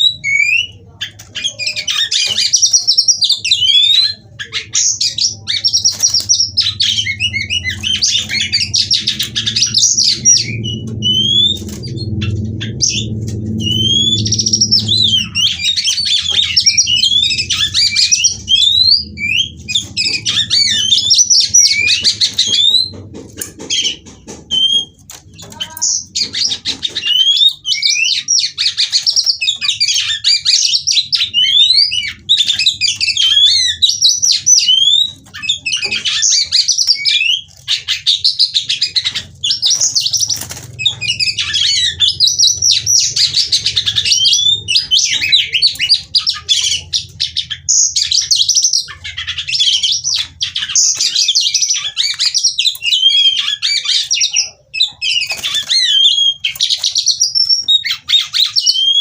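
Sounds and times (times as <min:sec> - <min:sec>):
bird singing whistles and trills: 0:00.0 - 0:23.0, 0:23.7 - 0:59.0.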